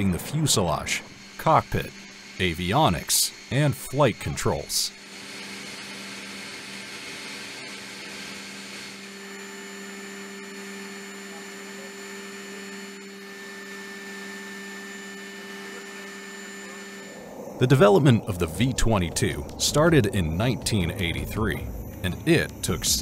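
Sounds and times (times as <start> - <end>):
high held tone: 0.0 - 5.0, 8.5 - 23.0.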